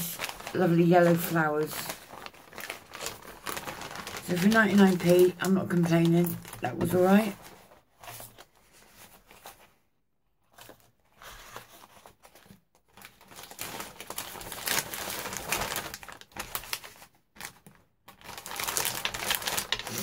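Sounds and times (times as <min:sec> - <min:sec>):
paper and packaging crinkling: 0:00.0 - 0:09.8, 0:10.4 - 0:20.0.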